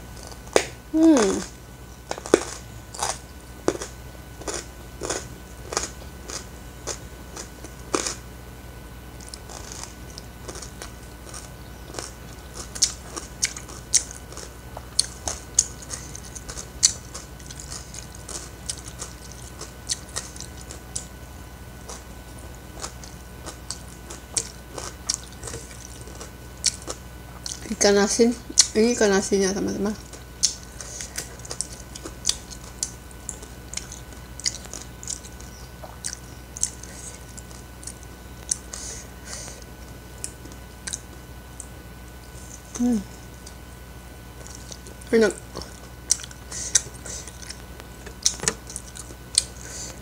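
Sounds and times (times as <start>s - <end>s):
person chewing and smacking: 2.0s - 8.2s, 9.2s - 21.2s, 21.8s - 27.7s, 30.0s - 41.7s, 44.4s - 50.0s.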